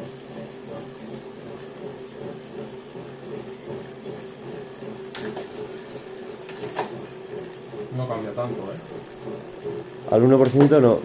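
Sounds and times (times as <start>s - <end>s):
bike trainer hum: 0.0s - 11.0s
buzzing vibration: 0.0s - 11.0s.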